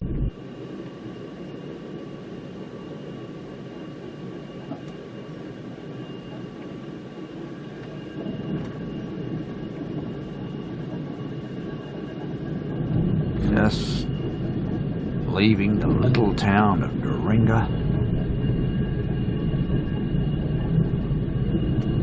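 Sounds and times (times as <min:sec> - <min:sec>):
faint even hum of tones: 0:00.0 - 0:22.0.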